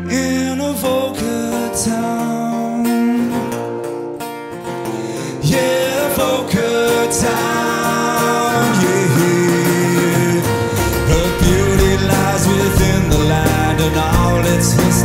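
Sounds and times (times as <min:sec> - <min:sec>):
man singing: 0:00.0 - 0:03.7, 0:05.2 - 0:15.0
live country band playing: 0:00.0 - 0:15.0
strummed acoustic guitar: 0:00.0 - 0:15.0.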